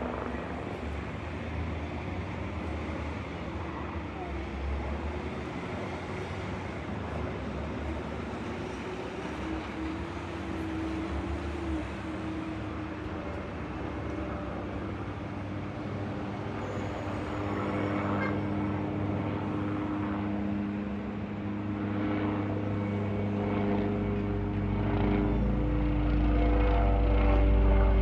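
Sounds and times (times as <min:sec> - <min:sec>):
engine droning hum: 0:00.0 - 0:28.0.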